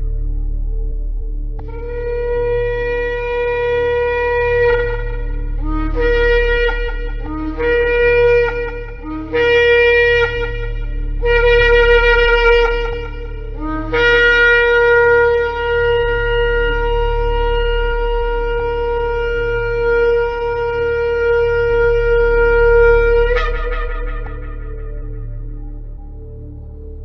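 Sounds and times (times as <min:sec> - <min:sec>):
steady low hum: 0:00.0 - 0:27.0
ram's horn blasts: 0:01.6 - 0:26.2.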